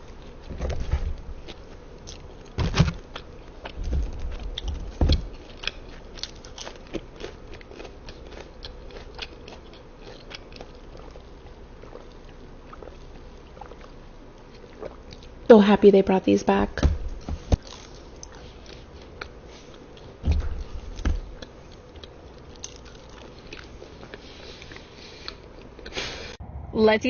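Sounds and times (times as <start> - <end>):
crunchy bites and chewing: 0.1 - 15.5, 17.2 - 26.0.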